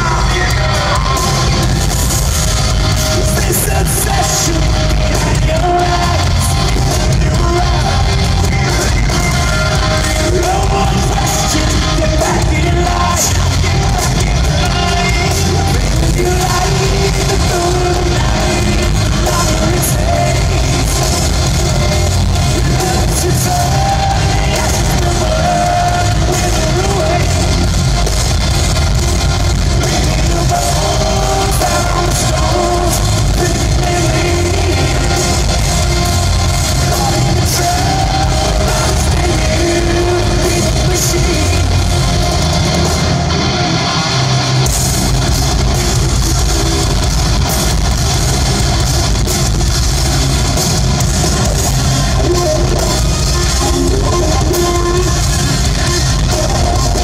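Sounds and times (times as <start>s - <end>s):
heavy rock band playing live: 0.0s - 57.0s.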